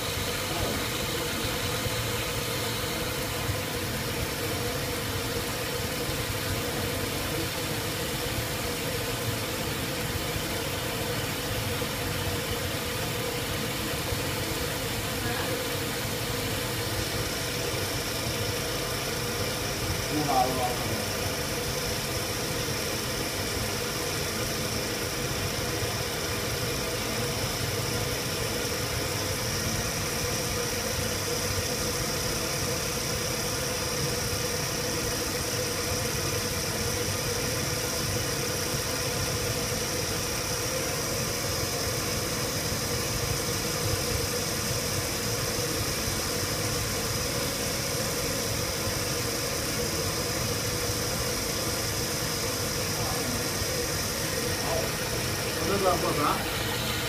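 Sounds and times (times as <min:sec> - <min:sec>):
machine humming with high whine: 0:00.0 - 0:57.0.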